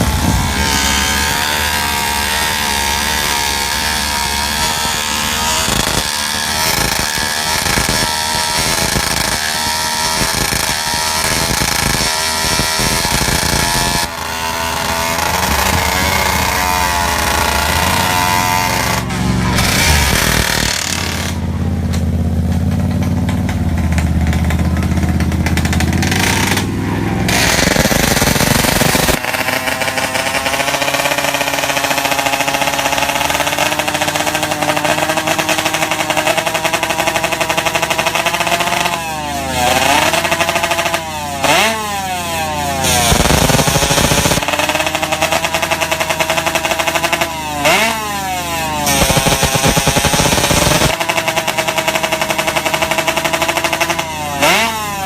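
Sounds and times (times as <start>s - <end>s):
superbike engines revving: 0.0s - 55.0s.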